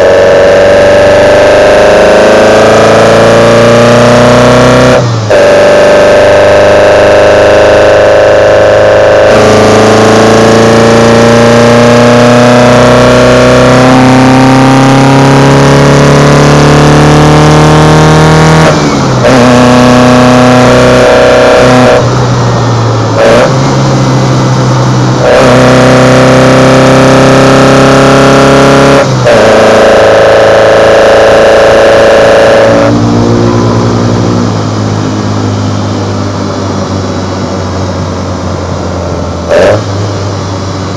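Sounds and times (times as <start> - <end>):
car engine revving through gears: 0.0 - 40.9.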